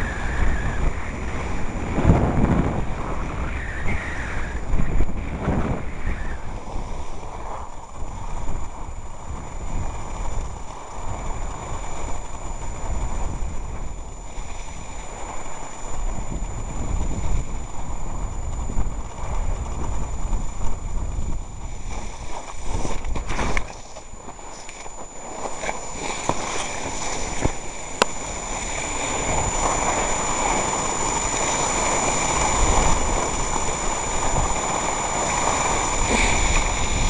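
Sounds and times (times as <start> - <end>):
faint high-pitched whine: 0.0 - 37.0
wind buffeting microphone: 0.0 - 37.0.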